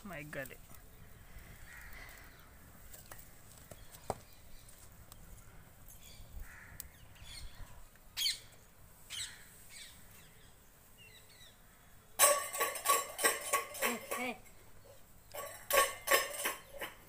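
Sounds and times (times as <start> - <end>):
birds calling harshly: 0.7 - 17.0.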